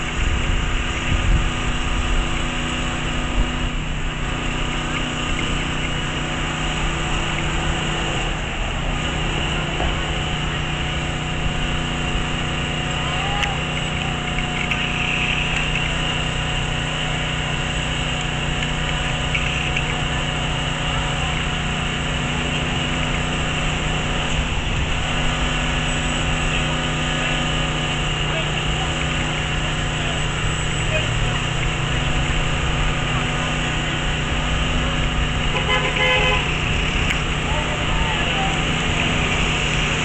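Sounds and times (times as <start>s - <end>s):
motor humming steadily: 0.0s - 40.0s
small generator engine running: 0.0s - 40.0s.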